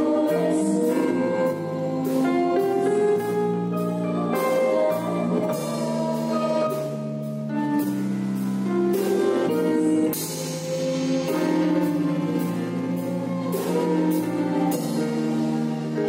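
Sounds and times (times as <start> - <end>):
drum kit playing: 0.0 - 16.0
electronic keyboard chords: 0.0 - 16.0
low guitar notes: 0.0 - 16.0.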